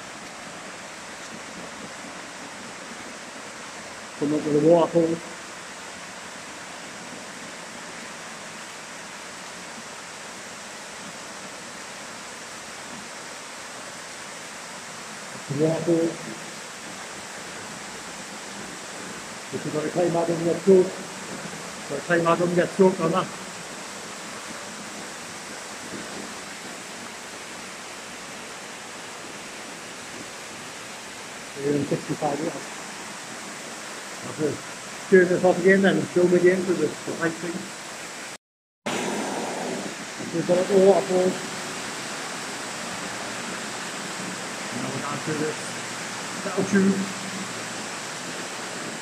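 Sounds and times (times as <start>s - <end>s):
waterfall roaring in tunnel: 0.0s - 49.0s.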